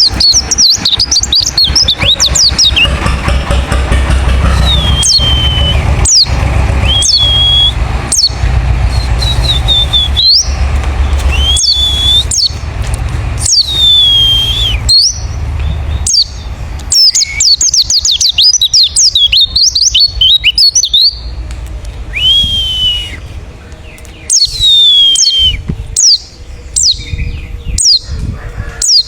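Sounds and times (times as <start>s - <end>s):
bird whistled calls: 0.0s - 3.1s, 4.4s - 12.7s, 13.4s - 21.3s, 22.1s - 29.0s.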